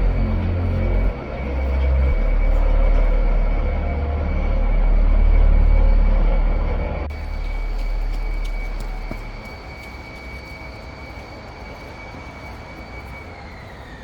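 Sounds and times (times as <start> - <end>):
high whine of passing vehicle: 0.0 - 14.0
vehicle low rumble: 0.0 - 14.0.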